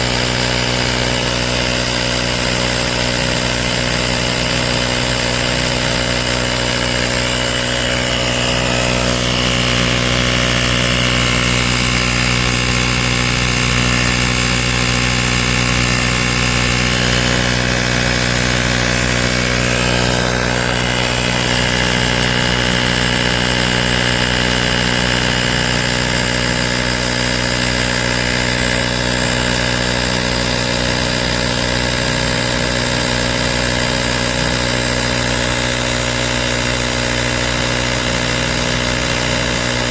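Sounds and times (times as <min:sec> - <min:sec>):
air compressor drone: 0:00.0 - 0:39.9.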